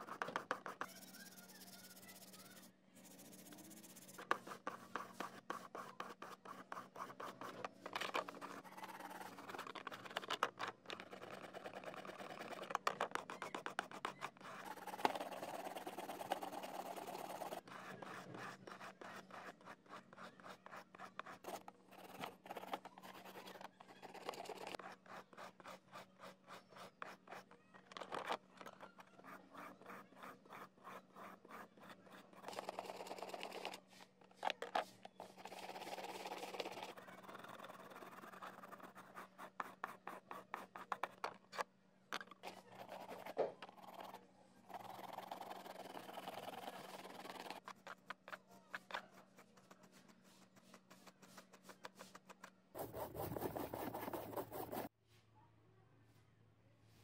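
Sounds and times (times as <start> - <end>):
toothbrush scrubbing circuit board: 0.0 - 27.5, 28.1 - 33.8, 35.2 - 41.2, 42.4 - 54.9.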